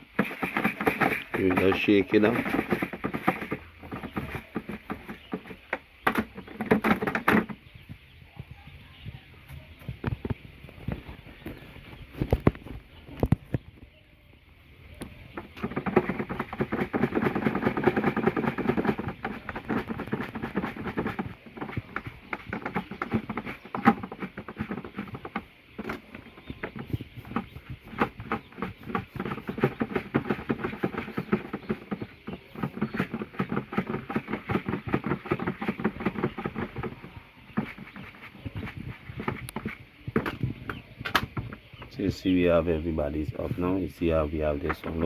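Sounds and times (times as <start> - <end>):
chicks pecking feed: 0.0 - 45.0.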